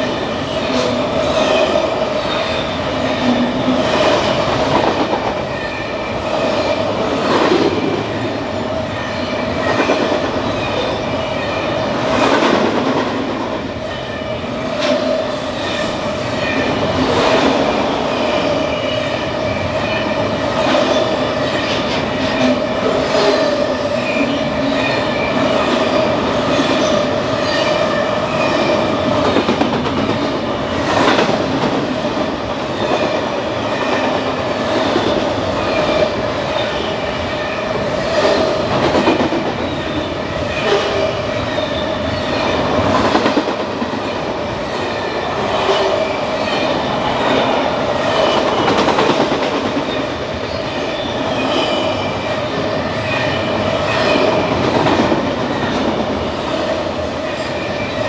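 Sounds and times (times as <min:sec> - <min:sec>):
freight train wheels rushing: 0:00.0 - 0:58.0.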